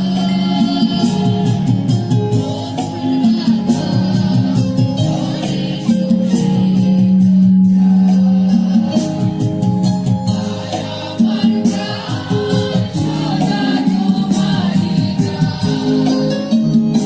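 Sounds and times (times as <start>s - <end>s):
choir singing: 0.0s - 17.0s
instrumental accompaniment: 0.0s - 17.0s
steady percussion beat: 0.0s - 17.0s.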